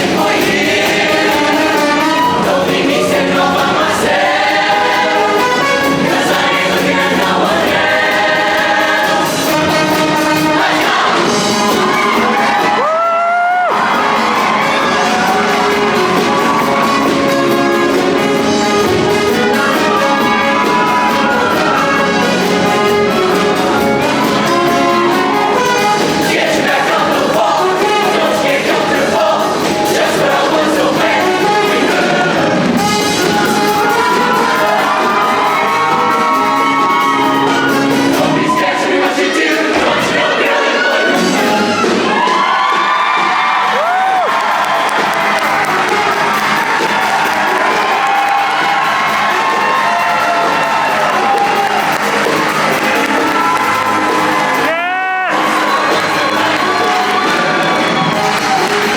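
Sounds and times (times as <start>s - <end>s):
live band with brass: 0.0s - 58.9s
show choir singing: 0.0s - 58.9s.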